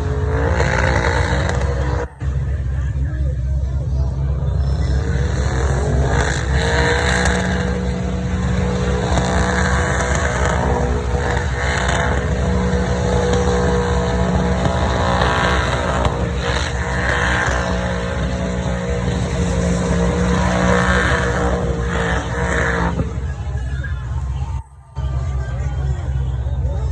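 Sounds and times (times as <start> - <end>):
truck engine at high revs: 0.0 - 26.9.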